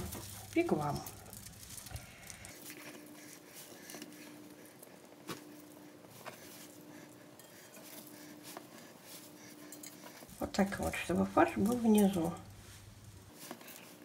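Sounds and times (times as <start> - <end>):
soft foil rustles: 0.0 - 14.0.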